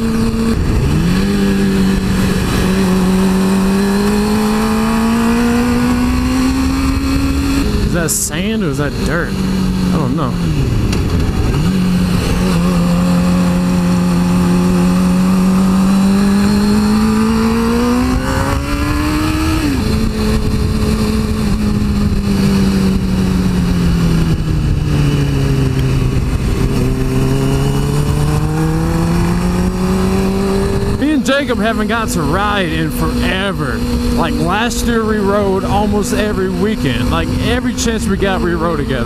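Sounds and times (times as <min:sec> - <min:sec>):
motorcycle engine revving: 0:00.0 - 0:39.0
wind rushing over microphone: 0:00.0 - 0:39.0.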